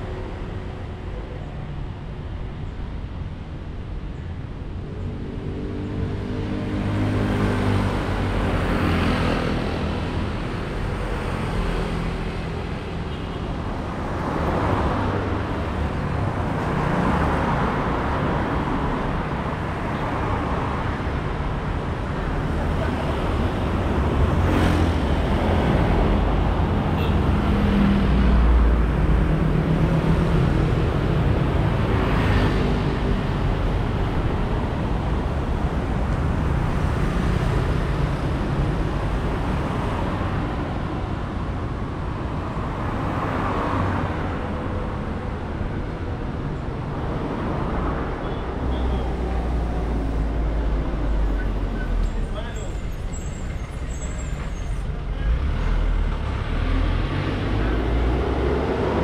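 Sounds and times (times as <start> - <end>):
cars and motorbikes driving past: 4.8 - 59.0.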